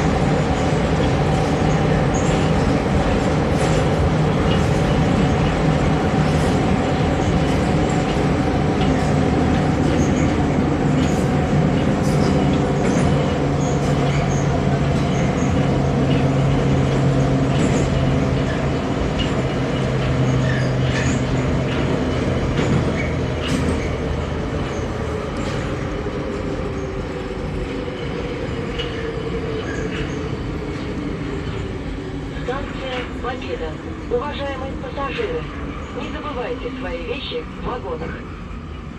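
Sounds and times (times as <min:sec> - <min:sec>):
rumbling wheel and rail noise: 0:00.0 - 0:38.9.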